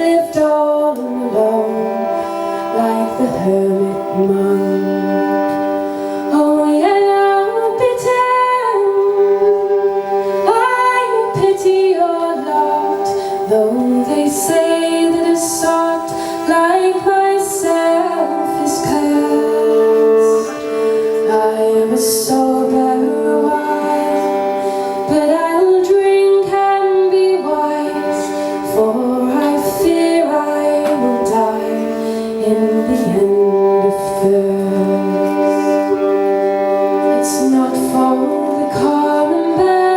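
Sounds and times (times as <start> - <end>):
woman singing folk song: 0.0 - 39.9.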